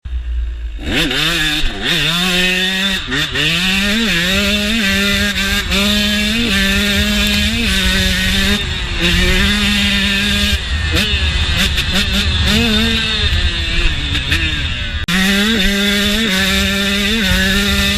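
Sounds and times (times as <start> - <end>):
motocross bike engine revving: 0.1 - 17.9.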